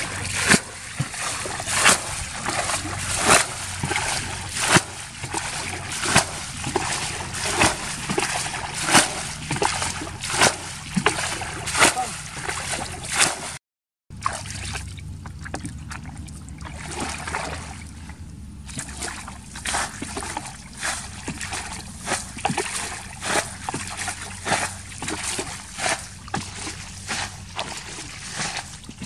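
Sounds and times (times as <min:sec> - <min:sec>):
bucket splashing muddy water: 0:00.0 - 0:29.0.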